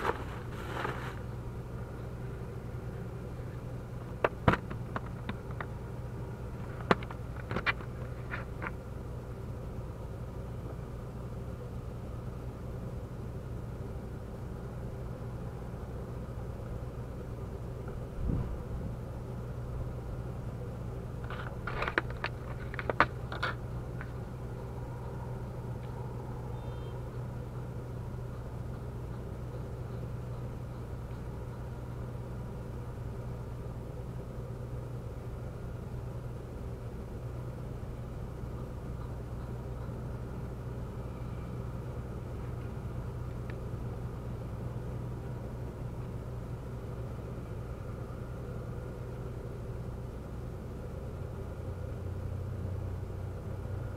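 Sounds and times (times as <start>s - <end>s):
low rumbling hum: 0.0s - 53.9s.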